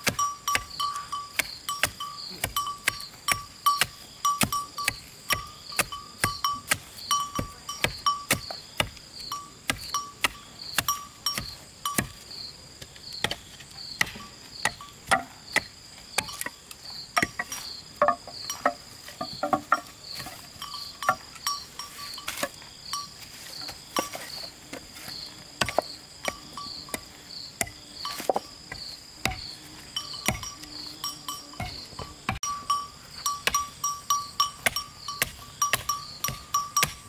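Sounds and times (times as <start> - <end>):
insect chirping: 0.0 - 37.0.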